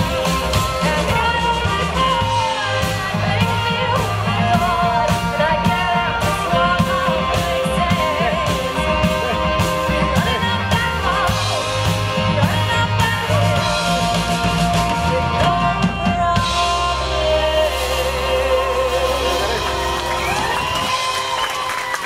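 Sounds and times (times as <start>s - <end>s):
woman singing: 0.0s - 20.2s
bass guitar: 0.0s - 22.0s
drum kit: 0.0s - 22.0s
electric guitars: 0.0s - 22.0s.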